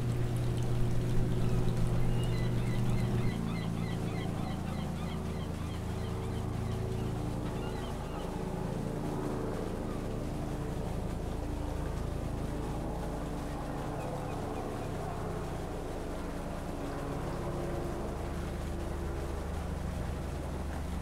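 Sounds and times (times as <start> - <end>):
engine droning steadily: 0.0 - 21.0.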